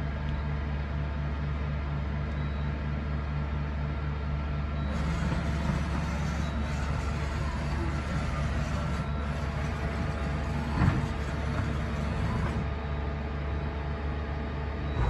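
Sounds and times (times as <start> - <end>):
industrial machinery hum: 0.0 - 15.0.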